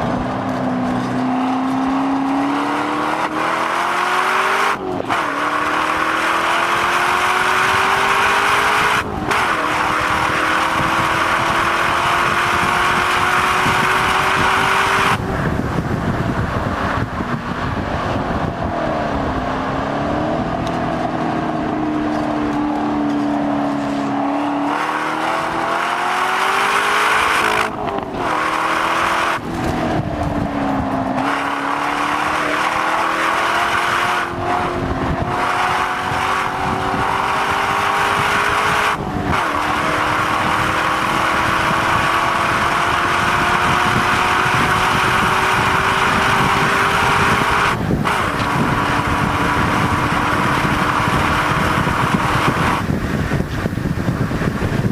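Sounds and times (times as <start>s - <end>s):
car engine running hard: 0.0s - 54.9s
wind and tyre noise: 0.0s - 54.9s.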